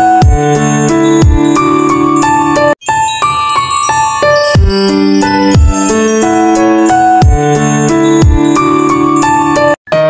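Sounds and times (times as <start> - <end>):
bell-like keyboard chords: 0.0 - 9.8.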